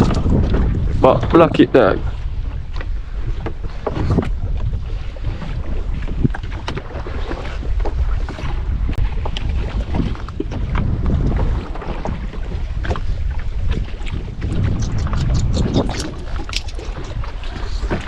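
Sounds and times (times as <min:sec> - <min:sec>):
boat engine low rumble: 0:00.0 - 0:18.0
wind buffeting microphone: 0:00.0 - 0:18.0.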